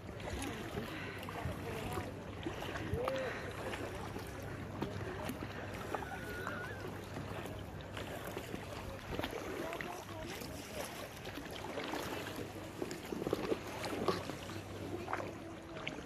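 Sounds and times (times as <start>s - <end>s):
water splashing around canoe: 0.0s - 16.0s.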